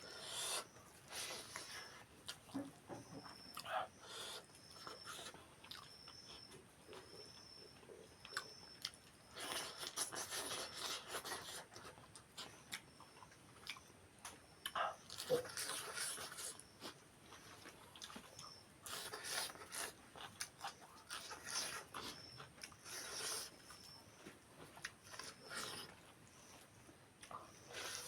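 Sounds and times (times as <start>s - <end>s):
chewing and eating mouth noises: 0.0s - 28.0s.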